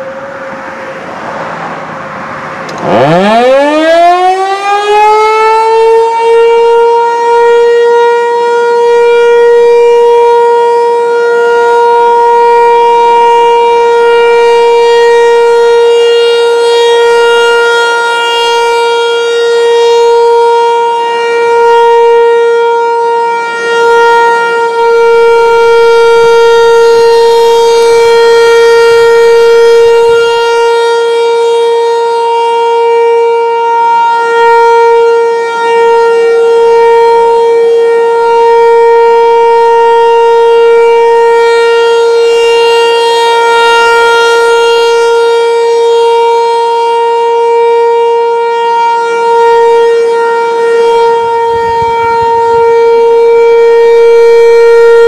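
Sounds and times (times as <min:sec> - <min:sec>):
tornado siren wailing: 0:00.0 - 0:55.0.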